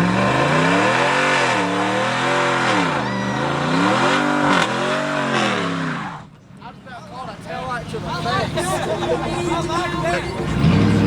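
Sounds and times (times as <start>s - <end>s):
car engine revving: 0.0s - 6.3s, 8.0s - 11.0s.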